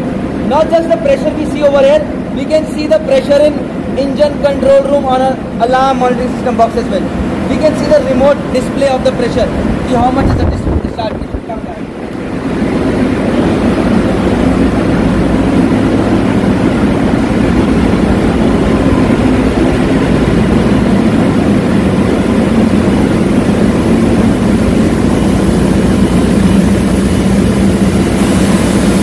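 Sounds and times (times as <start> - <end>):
engine-room machinery drone: 0.0 - 29.0.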